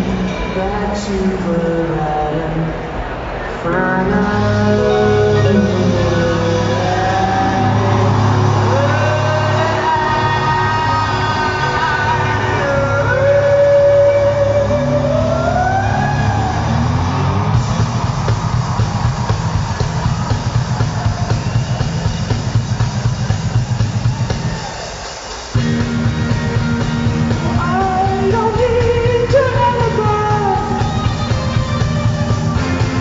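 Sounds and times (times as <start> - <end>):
live band music over pa: 0.0 - 2.8, 3.5 - 33.0.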